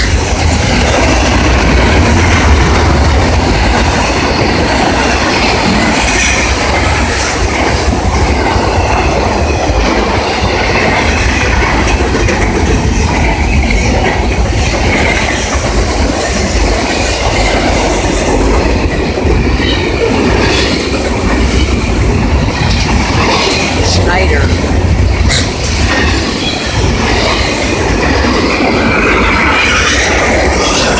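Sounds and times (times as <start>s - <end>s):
train wheels clattering on rails: 0.0s - 30.9s.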